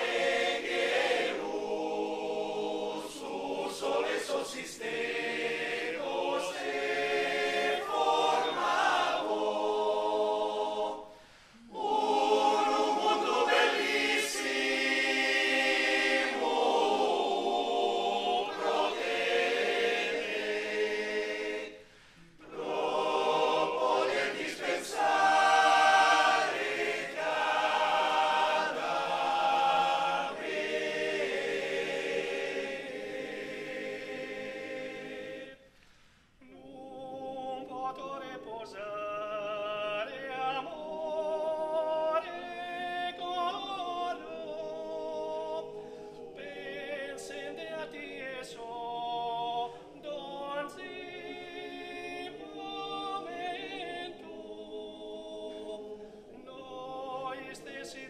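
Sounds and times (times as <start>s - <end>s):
male choir singing a cappella: 0.0s - 35.7s, 36.4s - 58.0s.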